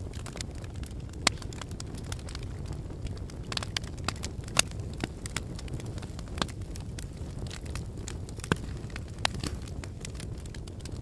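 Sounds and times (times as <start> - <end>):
loud fire pops: 0.0 - 11.0
wood fire crackling: 0.0 - 11.0.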